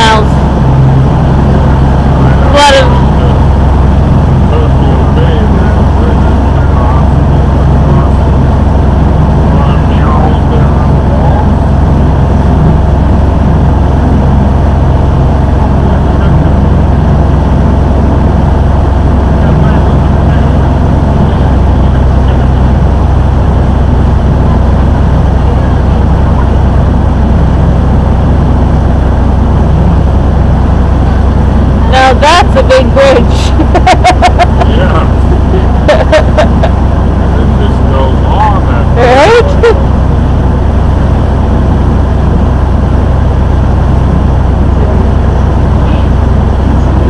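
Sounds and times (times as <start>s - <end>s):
boat engine humming: 0.0s - 47.0s
water rushing along hull: 0.0s - 47.0s.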